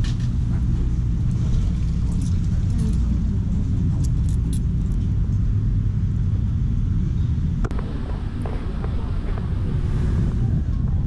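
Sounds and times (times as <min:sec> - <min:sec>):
low rumble of street noise: 0:00.0 - 0:11.0.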